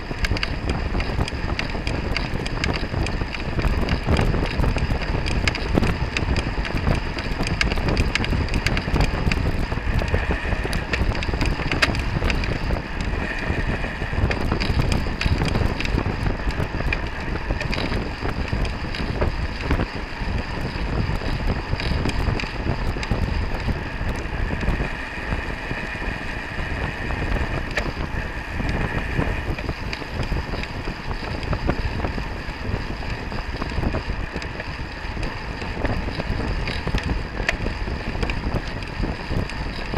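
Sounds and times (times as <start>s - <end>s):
bicycle tyre and road noise: 0.0s - 39.9s
wind rushing over microphone: 0.0s - 39.9s.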